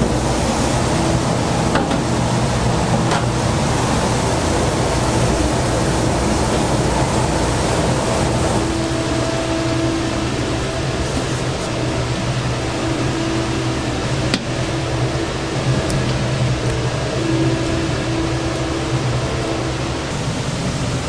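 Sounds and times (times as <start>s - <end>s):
faint steady tone: 0.0s - 21.0s
kitchen equipment rushing and humming: 0.0s - 21.0s.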